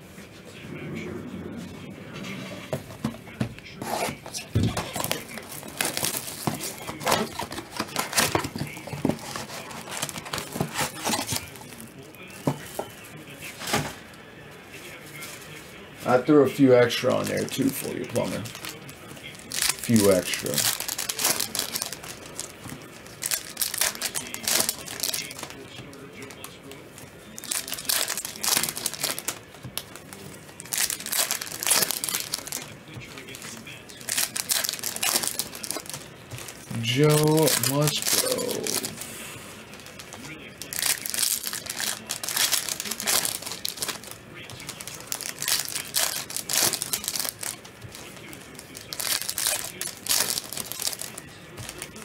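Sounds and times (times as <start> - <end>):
plastic wrapping crinkling: 3.7 - 13.6, 16.8 - 52.0.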